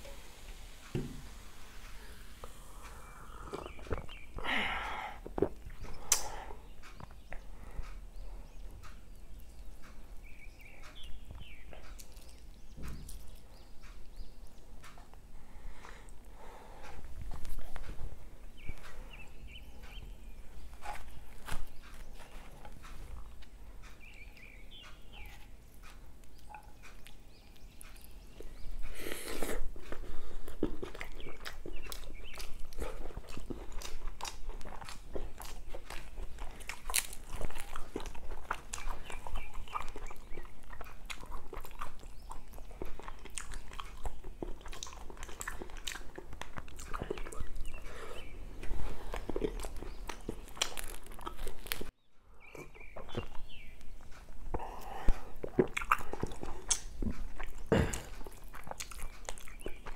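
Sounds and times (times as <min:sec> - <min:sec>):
chewing and wet mouth smacking: 0:02.4 - 0:04.4, 0:05.2 - 0:15.2, 0:15.8 - 0:51.9, 0:52.6 - 0:59.9.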